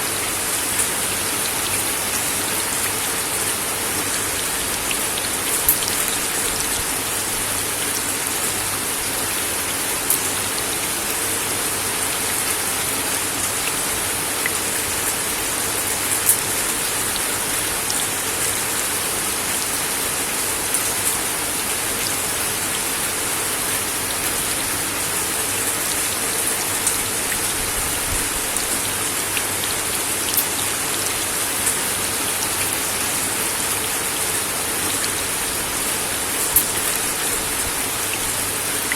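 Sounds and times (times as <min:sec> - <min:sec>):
rain on a wooden deck: 0:00.0 - 0:38.9.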